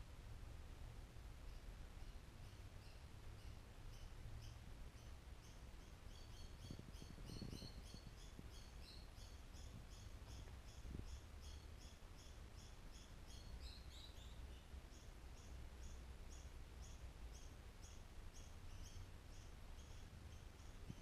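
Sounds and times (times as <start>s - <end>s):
faint bird chirping: 0.0s - 21.0s
low steady hum: 0.0s - 21.0s.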